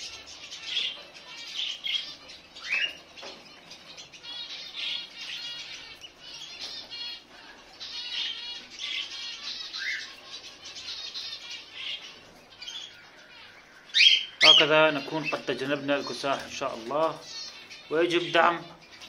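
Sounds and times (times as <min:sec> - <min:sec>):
chicks raspy begging chirps: 0:00.0 - 0:19.0.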